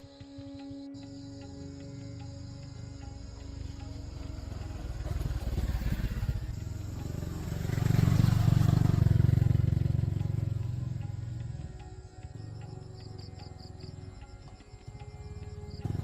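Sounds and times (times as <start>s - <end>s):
engine running with low pulsing: 0.0s - 16.0s.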